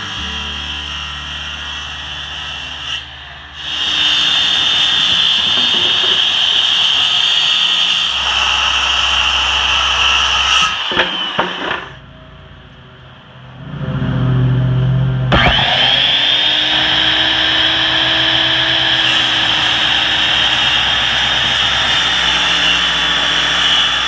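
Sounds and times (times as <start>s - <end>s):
circular saw cutting wood: 0.0s - 12.1s, 13.6s - 24.0s
saw knocking: 0.0s - 12.1s, 15.3s - 24.0s.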